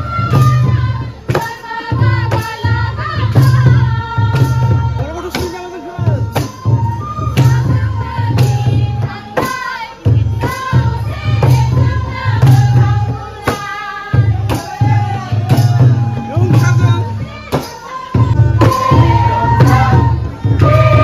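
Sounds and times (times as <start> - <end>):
drum beat: 0.0 - 21.0.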